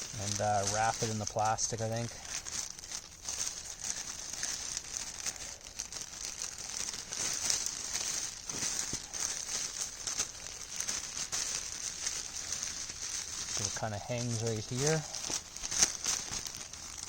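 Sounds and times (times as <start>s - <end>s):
plastic sheeting crinkling: 0.0s - 17.0s.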